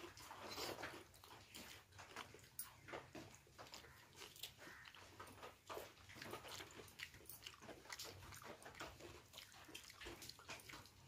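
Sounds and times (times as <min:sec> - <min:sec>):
person chewing and mouth sounds: 0:00.0 - 0:11.0.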